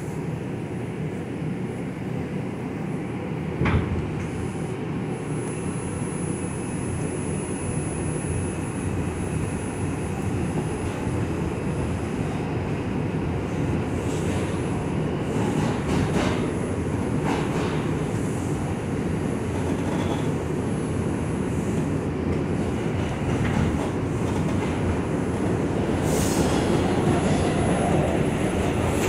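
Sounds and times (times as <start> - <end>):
subway train running rumble: 0.0 - 29.0.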